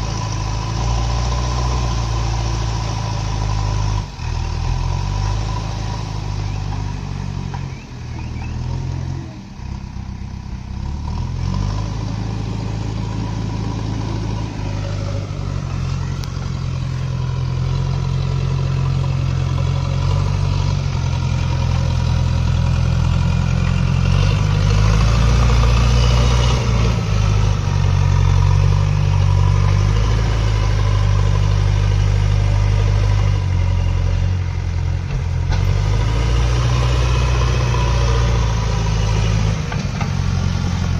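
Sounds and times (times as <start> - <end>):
backhoe diesel engine revving: 0.0 - 40.9.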